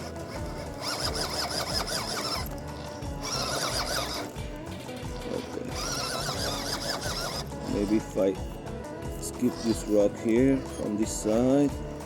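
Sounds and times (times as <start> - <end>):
background music: 0.0 - 12.0
toy car motor whining: 0.0 - 12.0.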